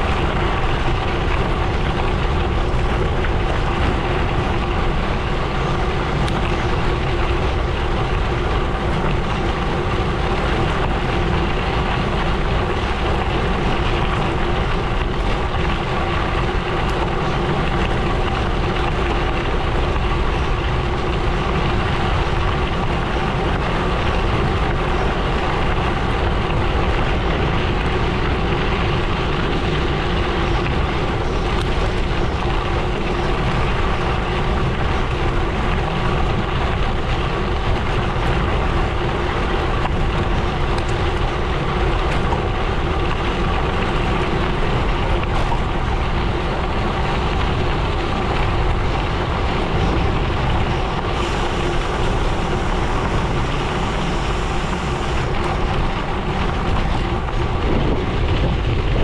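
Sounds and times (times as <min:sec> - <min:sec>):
bike tyres rolling on gravel: 0:00.0 - 0:59.0.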